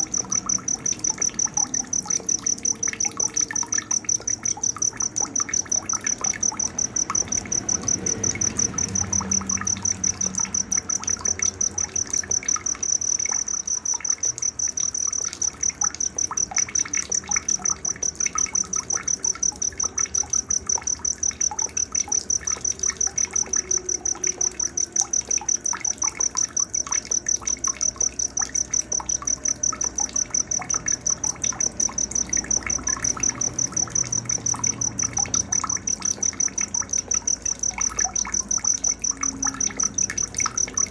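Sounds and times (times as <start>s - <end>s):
insect trilling: 0.0s - 40.9s.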